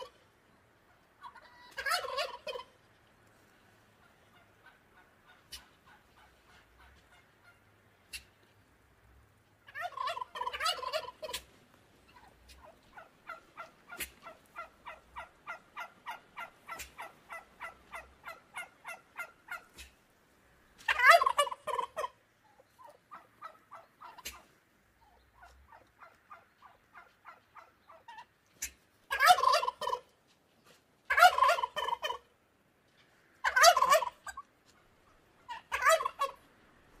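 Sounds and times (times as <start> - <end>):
quiet short turkey calls: 0.0 - 8.8, 9.6 - 37.0
turkey gobbling: 0.0 - 37.0.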